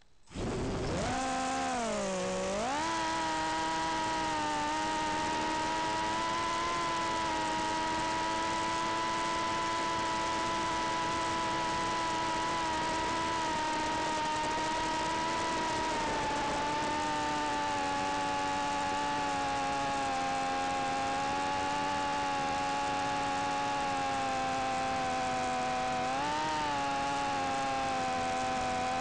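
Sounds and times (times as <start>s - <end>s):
drone motors whining: 0.2s - 29.0s.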